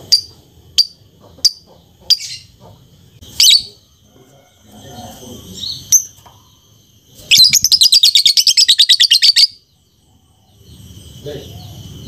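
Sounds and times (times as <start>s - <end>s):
lovebird chirp and rattling chatter: 0.1s - 4.0s, 4.6s - 12.0s.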